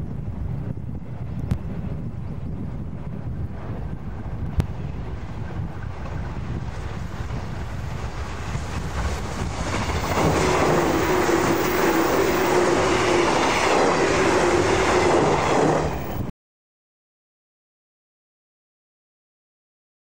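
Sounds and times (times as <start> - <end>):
steady train hum: 0.0 - 16.3
train passing on rails: 0.0 - 16.3.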